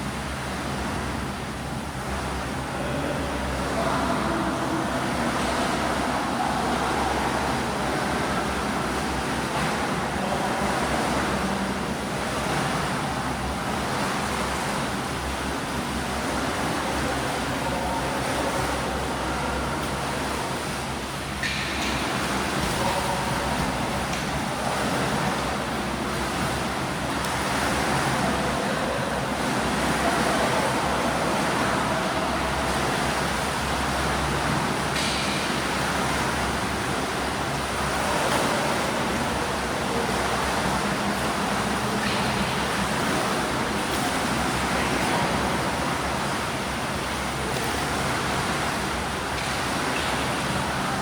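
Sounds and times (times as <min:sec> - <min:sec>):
water splashing from swimmers: 0:00.0 - 0:51.0.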